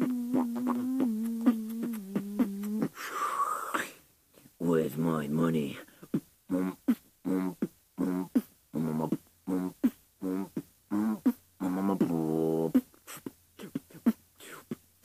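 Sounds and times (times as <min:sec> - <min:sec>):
person beatboxing: 0:00.0 - 0:04.0, 0:06.0 - 0:14.9.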